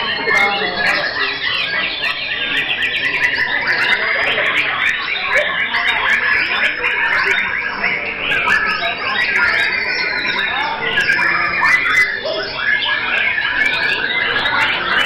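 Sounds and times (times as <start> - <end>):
songbird chorus whistling and trilling: 0.0 - 15.0.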